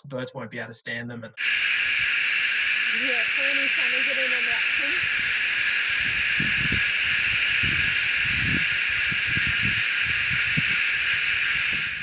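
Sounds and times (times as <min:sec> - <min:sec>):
cicadas buzzing: 0:01.4 - 0:12.0.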